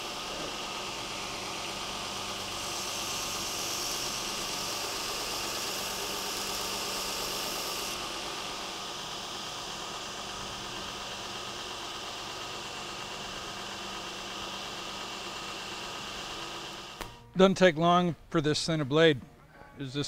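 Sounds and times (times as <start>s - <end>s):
belt grinder humming: 0.0s - 17.2s.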